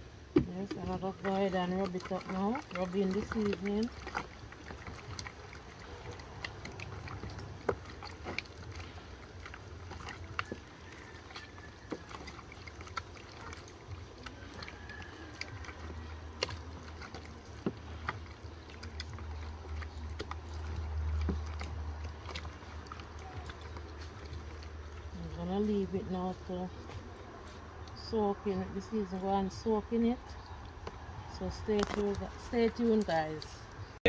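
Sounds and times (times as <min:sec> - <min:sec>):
hands squelching wet chicken: 0:00.0 - 0:34.0.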